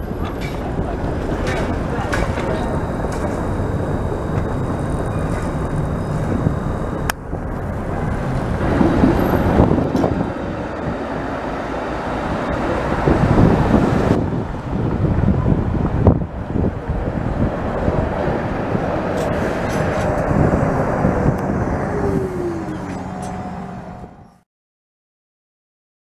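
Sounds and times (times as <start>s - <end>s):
cars passing: 0.0s - 24.4s
streetcars passing: 0.0s - 24.4s
wind buffeting microphone: 0.0s - 24.4s.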